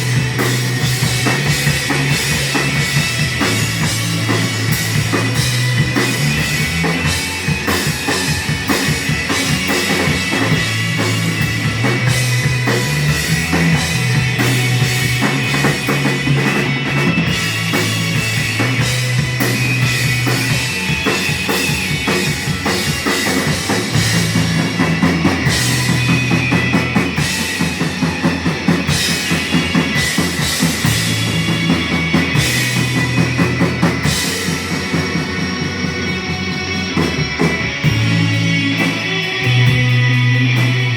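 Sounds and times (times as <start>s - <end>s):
bass line: 0.0s - 40.9s
drum kit playing: 0.0s - 40.9s.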